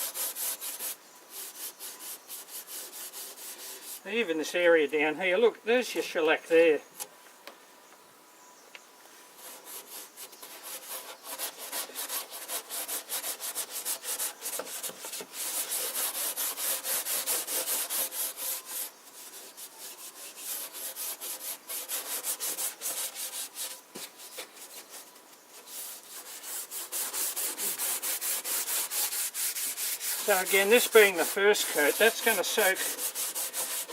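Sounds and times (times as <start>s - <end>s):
steel wool scrubbing wood: 0.0s - 4.2s, 9.4s - 33.9s.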